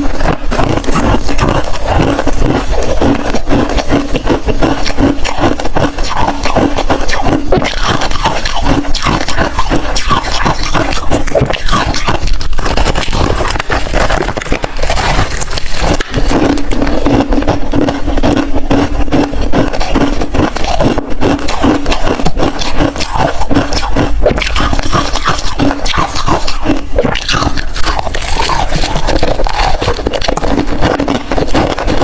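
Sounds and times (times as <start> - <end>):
ice crunching being chewed: 0.0 - 32.0.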